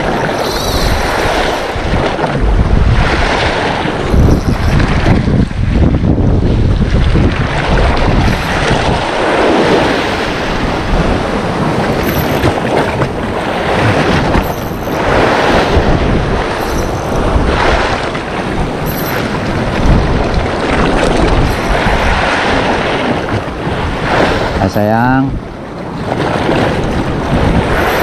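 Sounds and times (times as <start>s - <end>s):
sea waves washing ashore: 0.0s - 28.0s
wind buffeting microphone: 0.0s - 28.0s.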